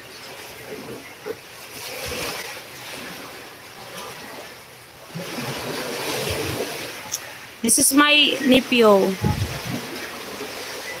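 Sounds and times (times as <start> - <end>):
heavy rain and wind: 1.9 - 11.0.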